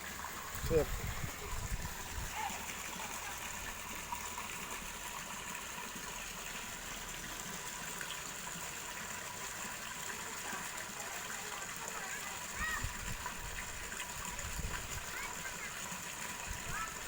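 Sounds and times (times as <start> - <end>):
pumped water rushing: 0.0 - 17.0.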